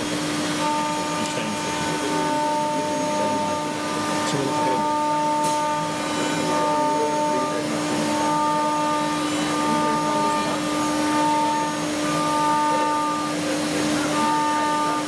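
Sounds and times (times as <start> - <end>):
end mill cutting wood: 0.0 - 15.0
higher cutting tone: 0.0 - 15.0
milling machine spindle whine: 0.0 - 15.0.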